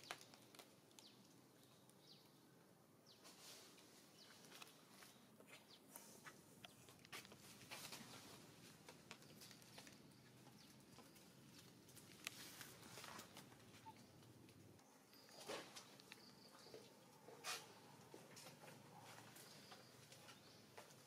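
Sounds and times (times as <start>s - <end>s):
light clicks and rustles: 3.2s - 21.0s.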